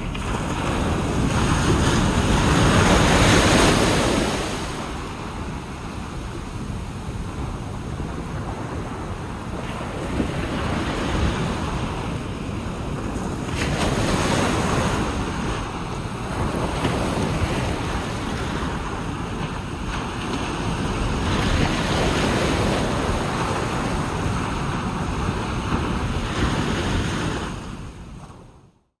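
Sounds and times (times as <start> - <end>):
ocean surf washing onto beach: 0.0 - 28.6
wind buffeting microphone: 0.0 - 28.8.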